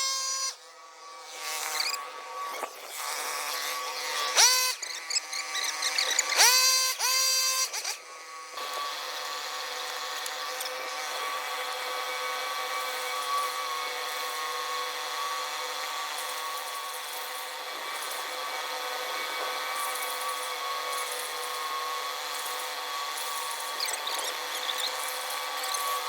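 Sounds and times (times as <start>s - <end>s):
power tool motor whining: 0.0s - 26.0s.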